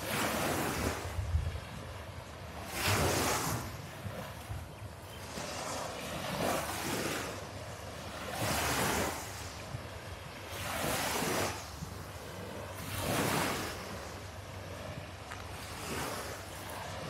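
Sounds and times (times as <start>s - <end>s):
small waves breaking on beach: 0.0s - 17.0s.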